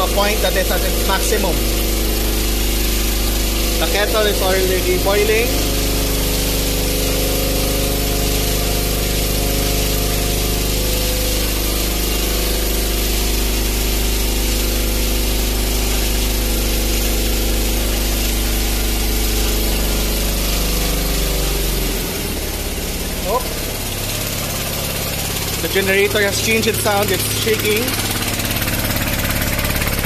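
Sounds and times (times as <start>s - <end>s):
generator engine straining: 0.0s - 30.0s.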